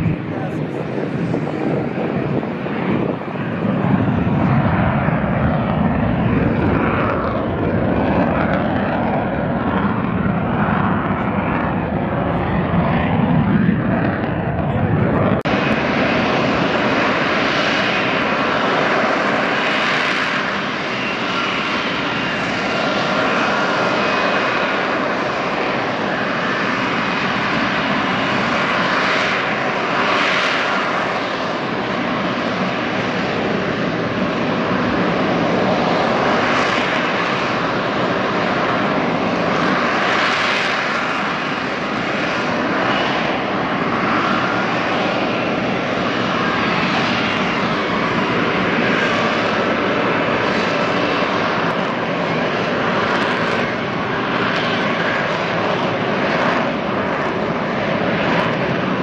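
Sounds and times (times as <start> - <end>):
jet engine roar with whine: 0.0 - 59.0.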